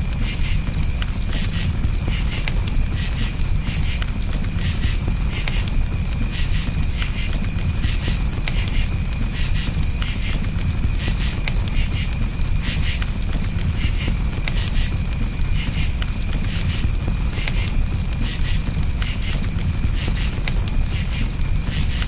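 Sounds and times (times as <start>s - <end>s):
campfire crackling and popping: 0.0s - 22.0s
crickets chirping: 0.0s - 22.0s.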